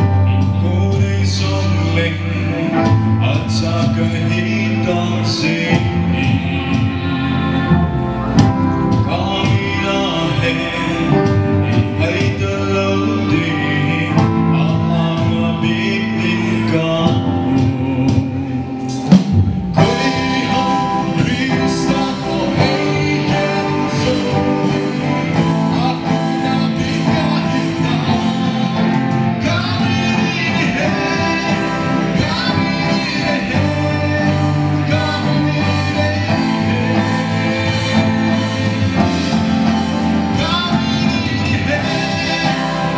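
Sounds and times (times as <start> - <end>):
people singing: 0.0 - 18.7, 19.8 - 42.9
guitar-led band: 0.0 - 42.9.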